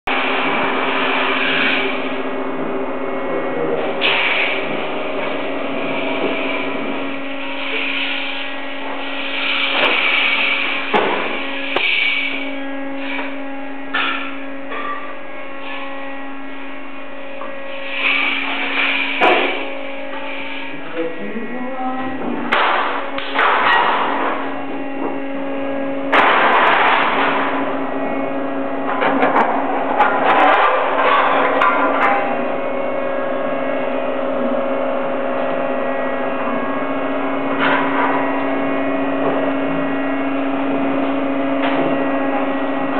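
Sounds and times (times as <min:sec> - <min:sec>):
machine motor hum: 0:00.1 - 0:42.9.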